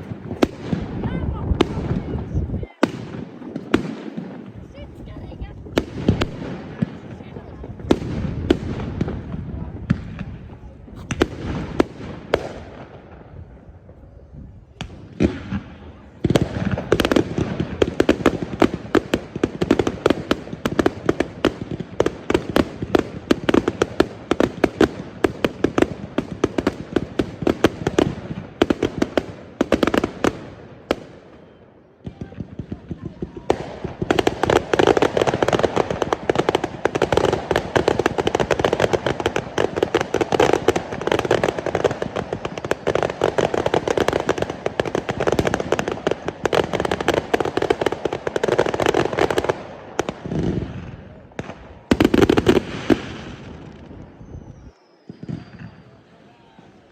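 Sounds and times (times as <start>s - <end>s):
fireworks cracking and banging: 0.0s - 56.9s.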